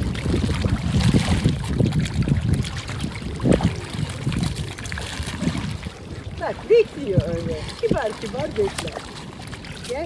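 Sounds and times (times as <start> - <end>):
water lapping at pebble shore: 0.0 - 10.0.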